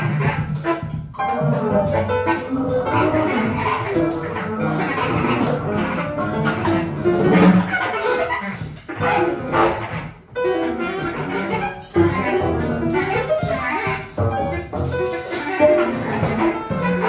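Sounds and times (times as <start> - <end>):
jazz quartet playing: 0.0 - 17.0.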